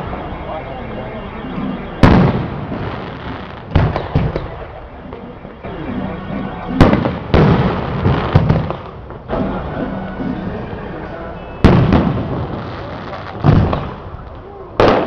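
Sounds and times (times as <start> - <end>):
fireworks bangs: 0.0 - 15.0
steady background din: 0.0 - 15.0.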